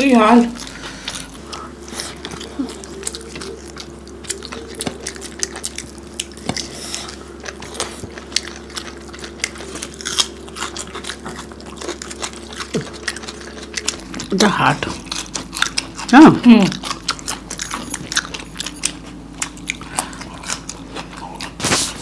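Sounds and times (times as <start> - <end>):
faint steady hum: 0.0 - 22.0
people chewing with wet smacks: 0.0 - 22.0.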